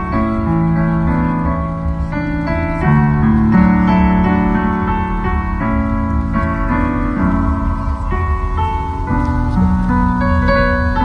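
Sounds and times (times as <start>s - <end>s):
steady low rumble: 0.0s - 11.0s
sustained keyboard chords: 0.0s - 11.0s.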